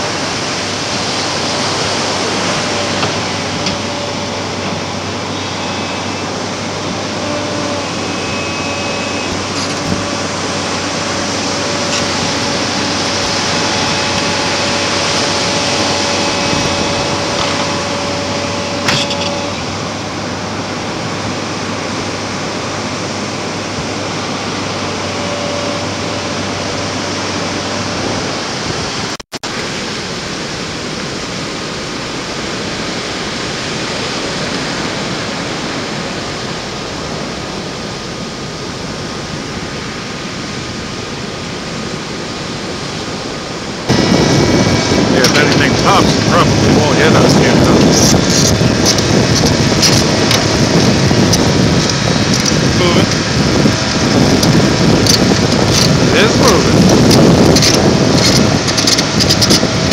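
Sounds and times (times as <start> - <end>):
surf breaking on beach: 0.0 - 59.9.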